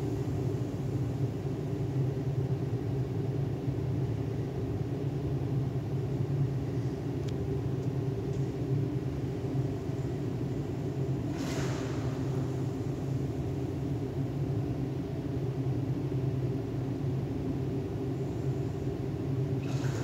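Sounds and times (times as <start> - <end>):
machinery hum and rumble: 0.0 - 20.0.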